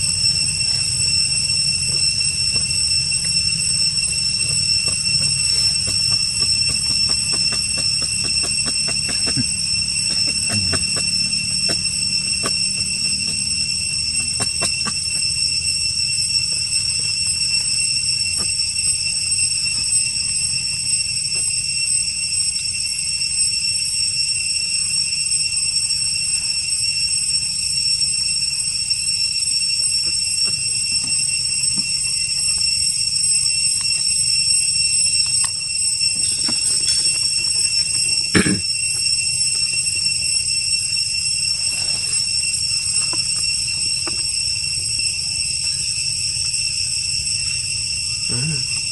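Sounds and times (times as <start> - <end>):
high-pitched insect drone: 0.0 - 48.9.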